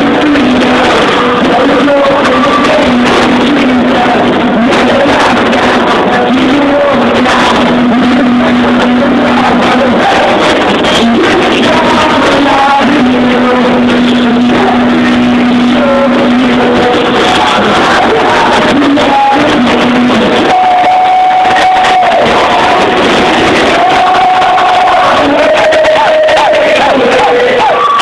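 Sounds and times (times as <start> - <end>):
live band playing: 0.0 - 28.0
people singing: 0.0 - 28.0.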